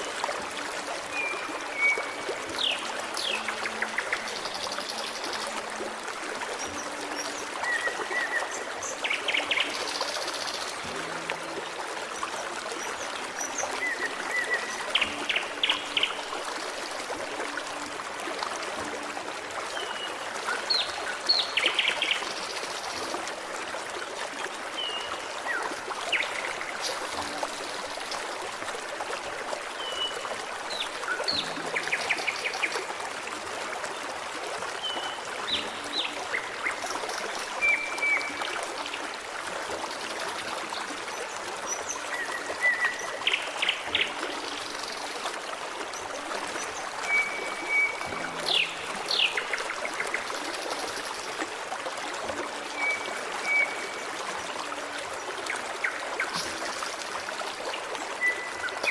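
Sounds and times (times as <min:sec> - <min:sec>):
stream babbling: 0:00.0 - 0:58.9.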